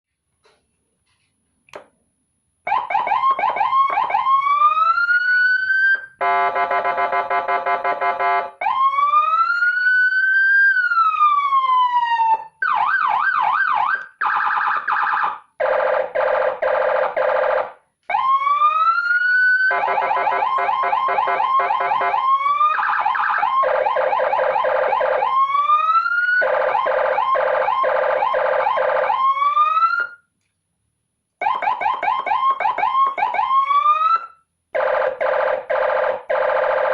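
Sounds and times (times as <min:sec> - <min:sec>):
electronic police siren: 0:02.7 - 0:30.2, 0:31.4 - 0:36.9.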